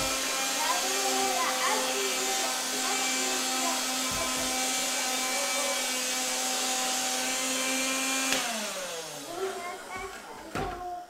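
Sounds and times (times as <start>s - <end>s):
vacuum motor winding down: 0.0s - 10.4s
handheld vacuum cleaner running: 0.0s - 11.0s.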